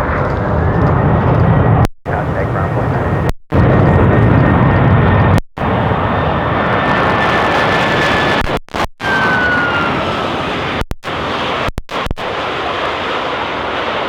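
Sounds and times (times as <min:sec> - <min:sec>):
jet airliner engines whining: 0:00.0 - 0:14.0.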